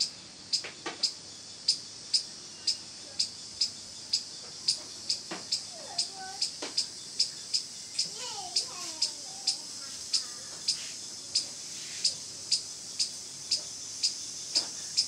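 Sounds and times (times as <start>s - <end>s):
small animal chirping: 0.0s - 14.3s.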